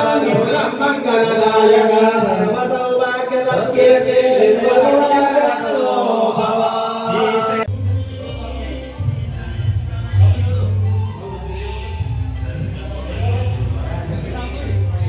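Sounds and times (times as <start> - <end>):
voices chanting: 0.0 - 14.8.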